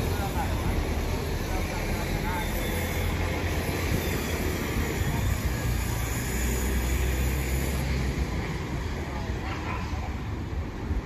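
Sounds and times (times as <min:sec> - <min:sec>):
street hum: 0:00.0 - 0:11.0
traffic rumble: 0:00.0 - 0:11.0.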